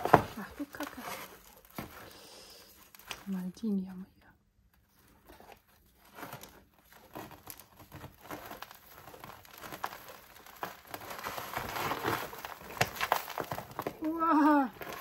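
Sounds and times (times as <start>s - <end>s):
roots tearing and soil crackling: 0.0s - 3.9s, 5.0s - 15.0s.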